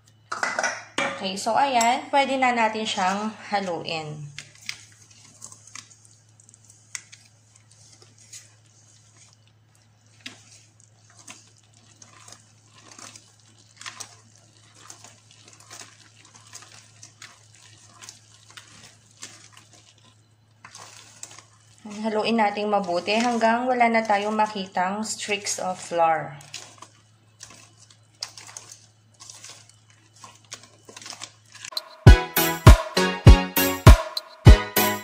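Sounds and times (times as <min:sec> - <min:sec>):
whisk scraping steel bowl: 0:02.8 - 0:31.9.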